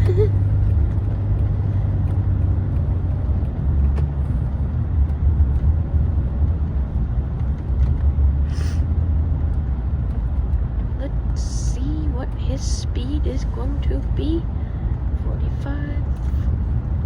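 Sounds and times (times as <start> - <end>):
car road rumble from inside: 0.0 - 17.0.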